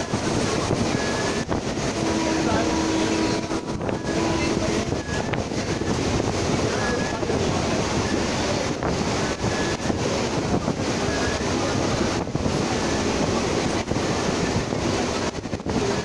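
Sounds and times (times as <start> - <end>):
train running on track: 0.0 - 16.0
wind buffeting microphone: 0.0 - 16.0.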